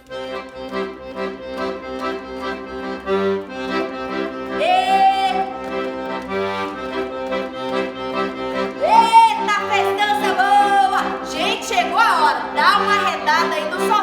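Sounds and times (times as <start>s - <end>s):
lively accordion music: 0.0s - 14.0s.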